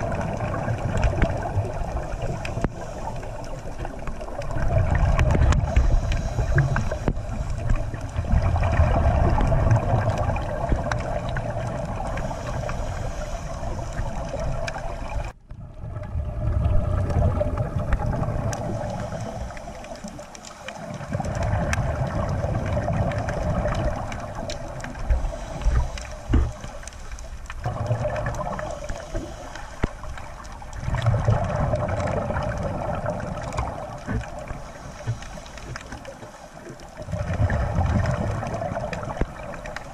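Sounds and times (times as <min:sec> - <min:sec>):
water rumbling and gurgling underwater: 0:00.0 - 0:39.9.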